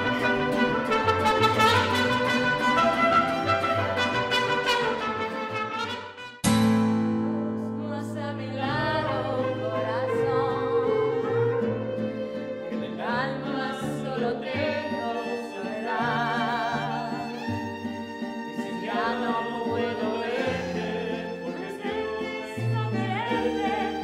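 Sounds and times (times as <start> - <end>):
mariachi band playing and singing: 0.0 - 24.0.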